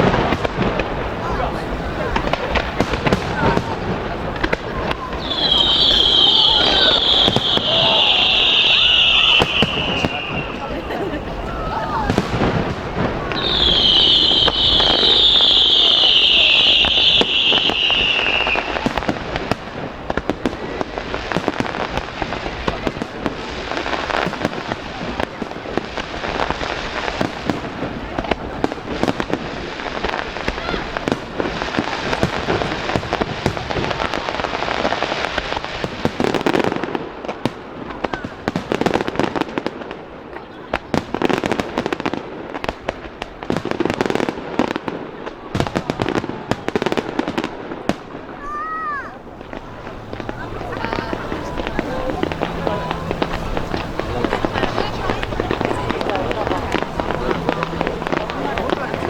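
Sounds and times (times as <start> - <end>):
firework whistle: 0.0 - 36.8, 42.7 - 59.0
fireworks crackling and bangs: 0.0 - 59.0.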